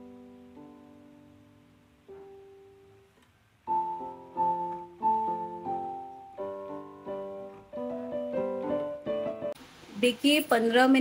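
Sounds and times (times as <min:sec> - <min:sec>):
piano melody: 0:00.0 - 0:09.6.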